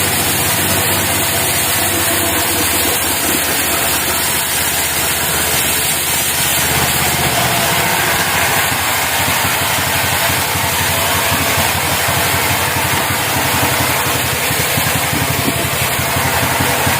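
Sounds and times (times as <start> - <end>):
bandsaw mill engine running: 0.0 - 16.9.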